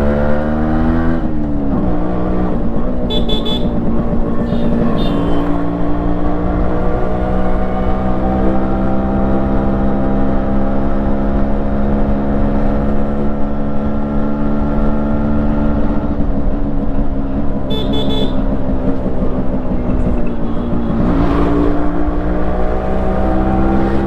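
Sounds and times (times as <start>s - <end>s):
two-stroke motorcycle engine running: 0.0s - 24.0s.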